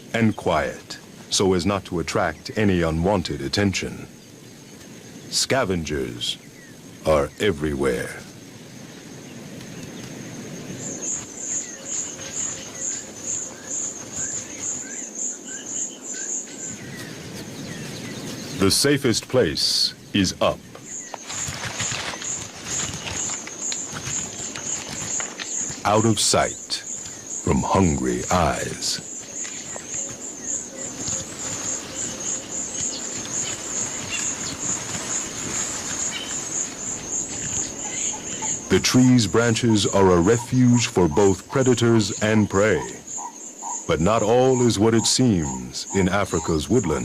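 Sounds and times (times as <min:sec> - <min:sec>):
cricket chirping: 0:00.0 - 0:47.0
faint rustling bush: 0:00.0 - 0:47.0
high-pitched insect call pulsing: 0:00.0 - 0:47.0.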